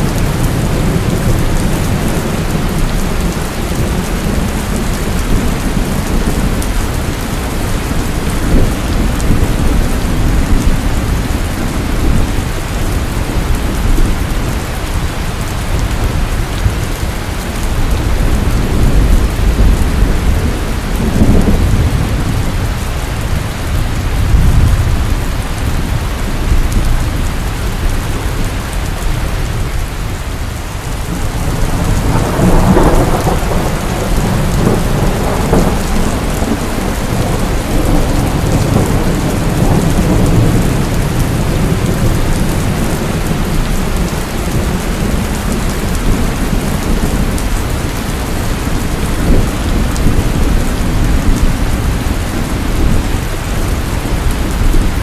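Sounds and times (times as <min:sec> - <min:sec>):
rolling thunder: 0:00.0 - 0:29.9, 0:30.8 - 0:55.0
heavy rain falling: 0:00.0 - 0:55.0.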